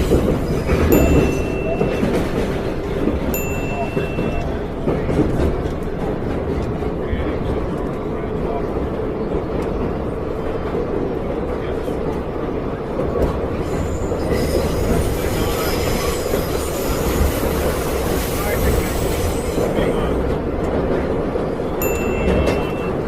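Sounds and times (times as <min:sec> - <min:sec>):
subway train rumbling: 0:00.0 - 0:23.0.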